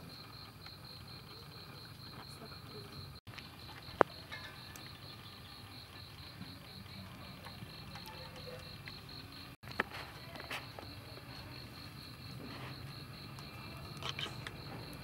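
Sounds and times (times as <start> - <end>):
insect chirping trill: 0.0 - 15.0.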